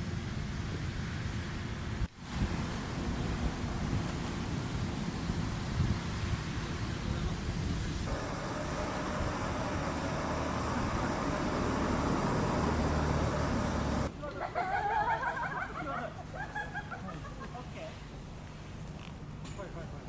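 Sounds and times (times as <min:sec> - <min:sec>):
steady rumble and hiss: 0:00.0 - 0:20.0.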